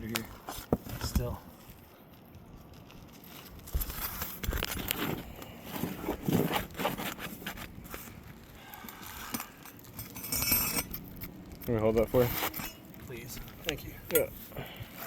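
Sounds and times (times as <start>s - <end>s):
scraping asphalt shingles: 2.7s - 15.0s.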